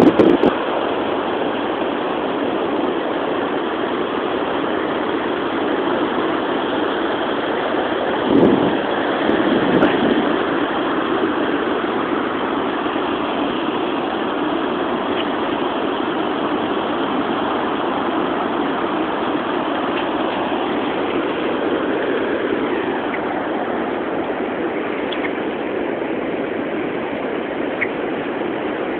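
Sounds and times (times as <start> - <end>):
ocean surf: 0.0 - 28.9
wind: 0.0 - 28.9.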